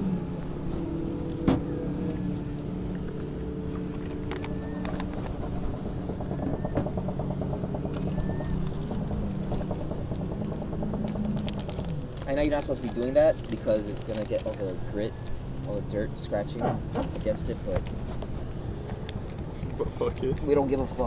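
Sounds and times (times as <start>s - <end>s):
car engine humming: 0.0s - 21.0s.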